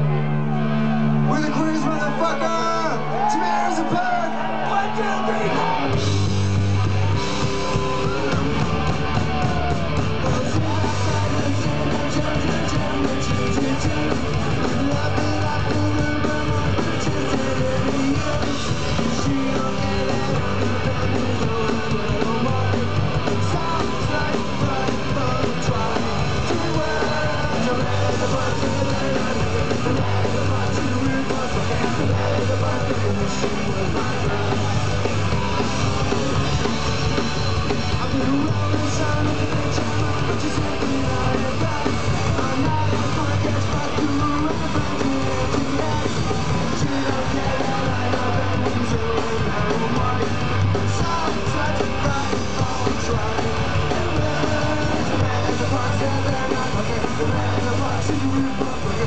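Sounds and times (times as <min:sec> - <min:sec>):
bass guitar: 0:00.0 - 0:59.0
distorted electric guitars: 0:00.0 - 0:59.0
drums: 0:00.0 - 0:59.0
person shouting singing: 0:06.7 - 0:59.0.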